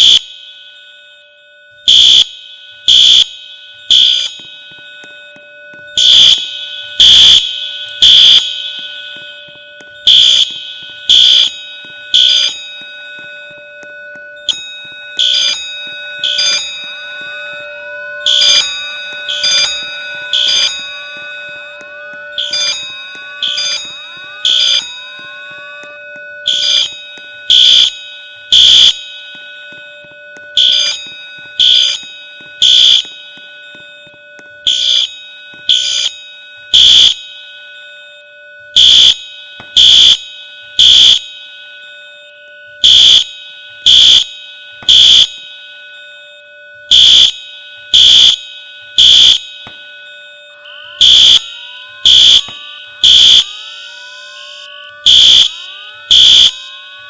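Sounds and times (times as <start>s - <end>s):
fire alarm beeps: 0.0s - 57.0s.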